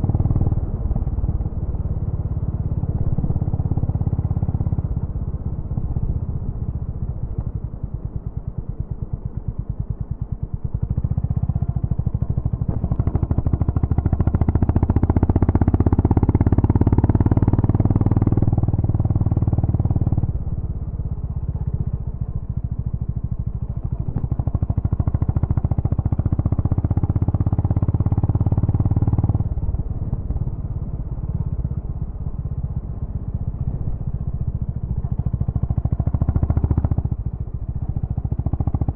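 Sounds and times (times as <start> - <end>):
motorcycle engine thumping and revving: 0.0 - 38.9.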